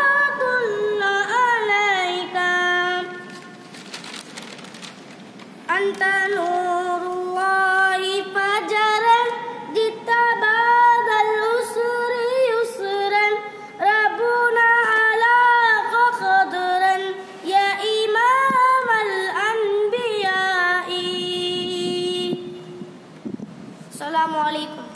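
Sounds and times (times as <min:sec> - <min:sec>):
boy singing unaccompanied: 0:00.0 - 0:03.7, 0:05.6 - 0:23.0, 0:23.9 - 0:24.9.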